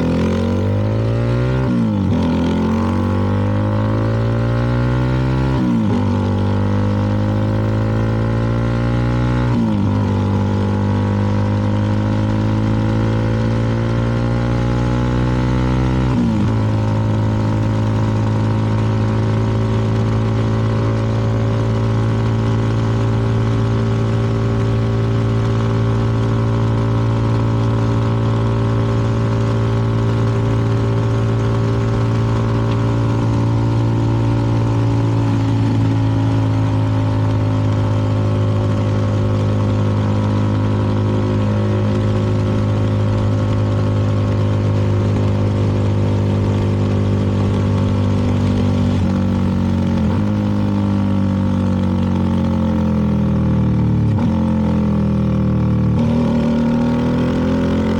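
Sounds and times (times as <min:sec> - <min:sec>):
motorcycle engine cruising: 0:00.0 - 0:57.9
wind and road noise: 0:00.0 - 0:57.9.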